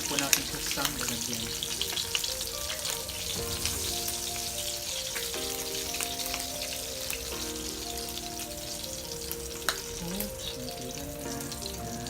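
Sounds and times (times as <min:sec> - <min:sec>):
hot oil sizzling and crackling: 0:00.0 - 0:12.0
soft background music: 0:00.0 - 0:12.0.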